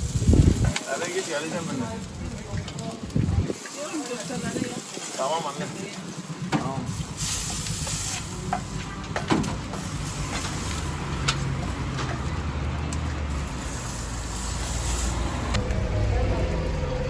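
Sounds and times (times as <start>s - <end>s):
food sizzling on a grill: 0.0s - 15.6s
traffic rumble: 0.0s - 17.0s.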